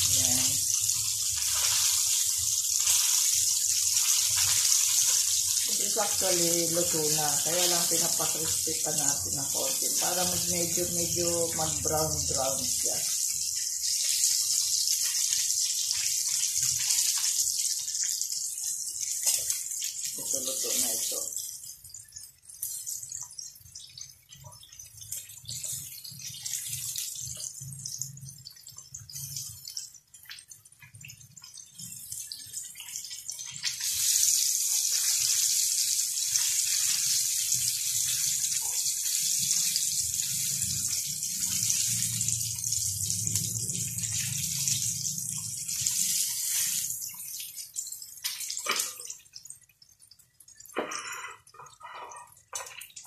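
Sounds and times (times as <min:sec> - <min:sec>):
chicken deep-frying in oil: 0:00.0 - 0:53.0.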